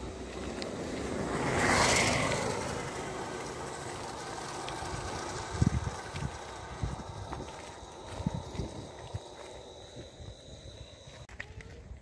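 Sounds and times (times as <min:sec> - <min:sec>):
motorcycle passing on cobblestones: 0:00.0 - 0:11.2.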